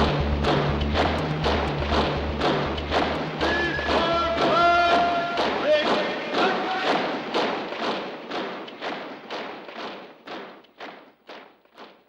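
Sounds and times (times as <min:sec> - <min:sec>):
soldiers marching on pavement: 0:00.0 - 0:12.0.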